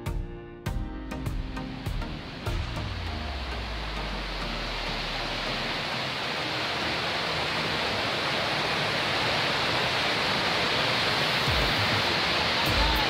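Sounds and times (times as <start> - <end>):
waterfall rushing: 1.4 - 13.0.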